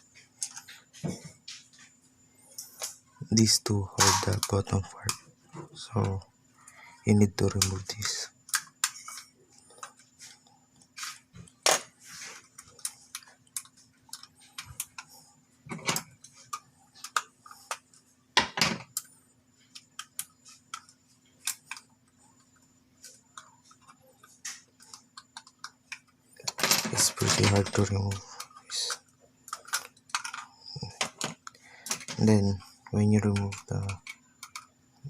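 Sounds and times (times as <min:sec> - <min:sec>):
parts clicking and scraping by hand: 0:00.0 - 0:06.2, 0:07.4 - 0:18.1, 0:18.8 - 0:34.8
faint steady hum: 0:00.0 - 0:35.0.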